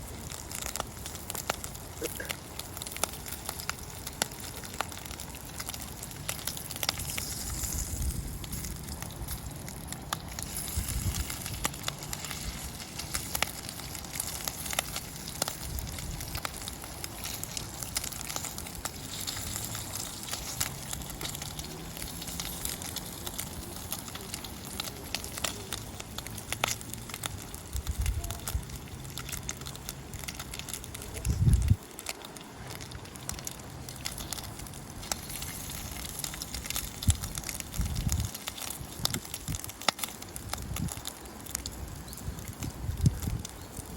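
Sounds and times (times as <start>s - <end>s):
campfire crackling: 0.0s - 43.9s
fire hiss: 0.0s - 43.9s.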